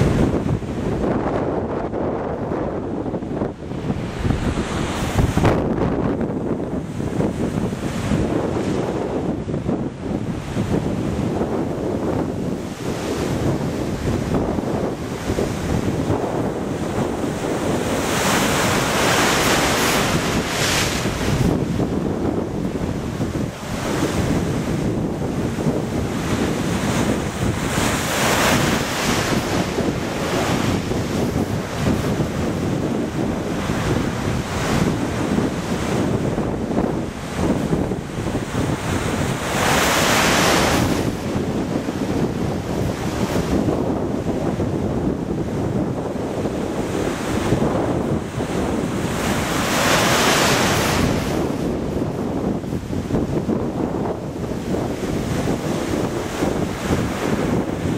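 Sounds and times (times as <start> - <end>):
sea waves breaking: 0.0 - 57.9
wind buffeting microphone: 0.0 - 57.9.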